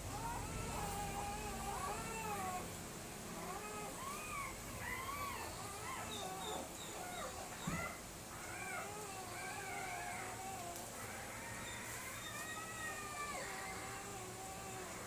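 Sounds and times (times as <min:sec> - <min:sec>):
puppies whining and yelping: 0:00.1 - 0:02.7, 0:03.4 - 0:15.0.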